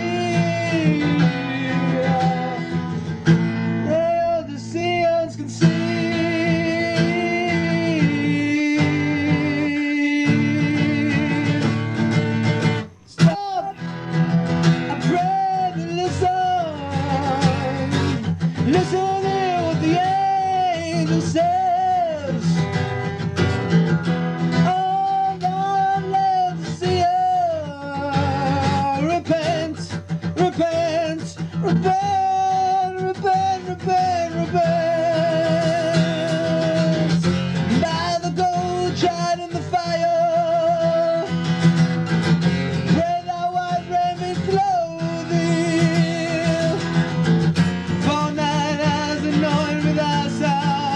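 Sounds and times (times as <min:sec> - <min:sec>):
person singing with vibrato: 0:00.0 - 0:23.2, 0:24.1 - 0:50.9
acoustic guitar: 0:00.0 - 0:50.9.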